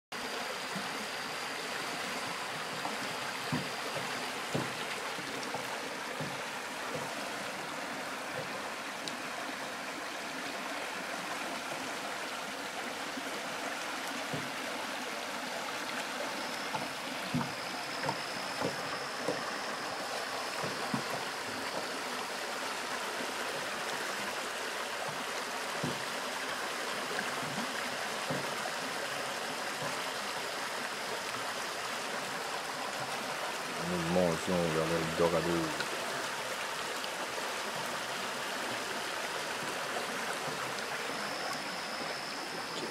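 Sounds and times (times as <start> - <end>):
low water gurgles: 0.2 - 42.9
stream water rushing: 0.2 - 42.9.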